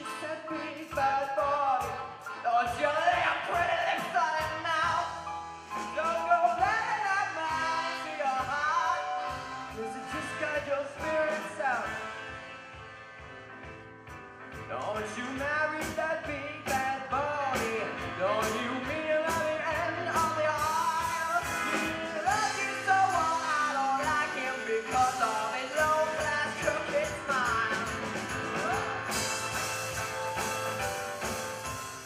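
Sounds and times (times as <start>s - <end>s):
person singing: 0.0s - 12.2s, 14.6s - 30.2s
accordion: 0.0s - 32.0s
drum kit steady beat: 0.0s - 32.0s
live band playing: 0.0s - 32.0s.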